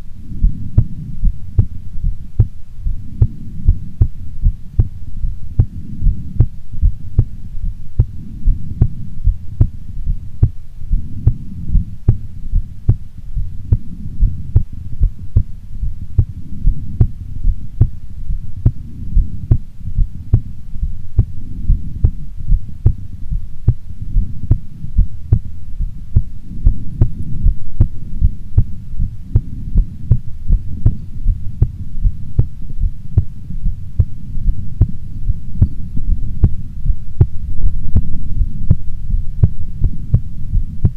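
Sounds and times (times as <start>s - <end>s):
low rumble: 0.0s - 40.9s
heartbeat thumps: 0.3s - 40.9s.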